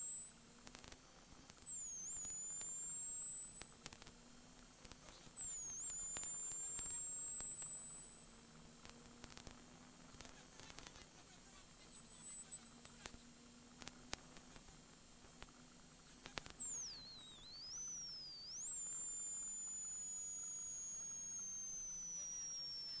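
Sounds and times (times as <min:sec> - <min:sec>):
sharp clicks: 0:00.6 - 0:22.9.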